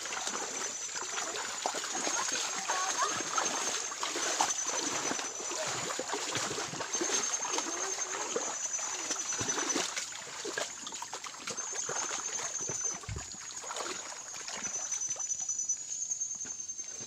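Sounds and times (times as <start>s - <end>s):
flowing creek: 0.0s - 15.8s.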